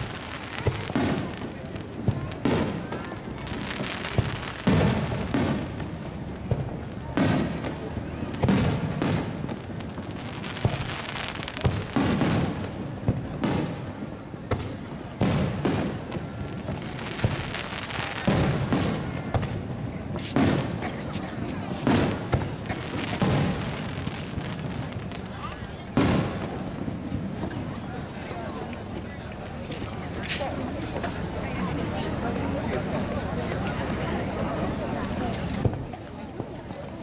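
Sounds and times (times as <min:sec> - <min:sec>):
crowd voices: 0:00.0 - 0:37.0
fireworks booming: 0:00.0 - 0:37.0.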